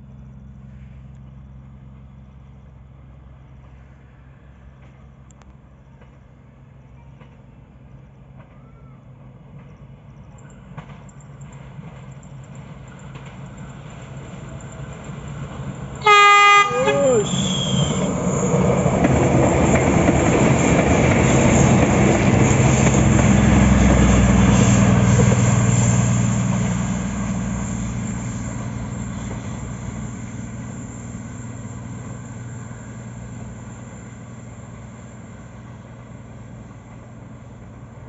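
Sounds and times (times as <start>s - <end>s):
diesel train engine drone: 0.0s - 38.0s
train wheels rumbling on rails: 0.1s - 38.0s.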